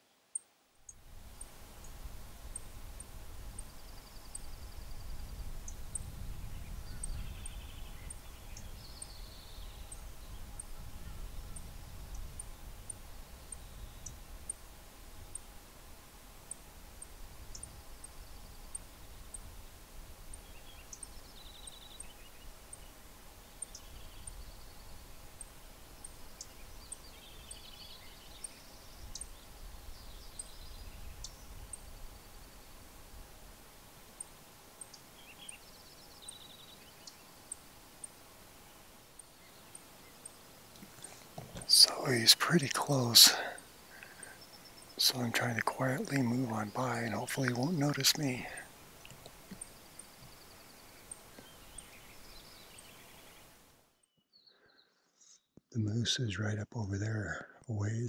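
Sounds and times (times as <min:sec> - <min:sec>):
small birds trilling: 0:00.9 - 0:15.6, 0:16.4 - 0:53.7.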